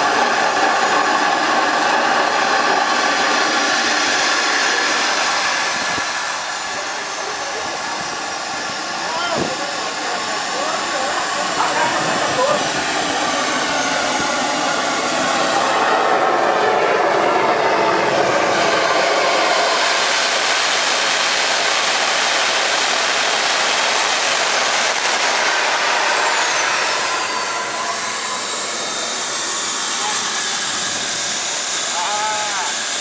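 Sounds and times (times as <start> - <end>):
high whistle gliding down: 0.0 - 33.0
turbine engine whine: 0.0 - 33.0.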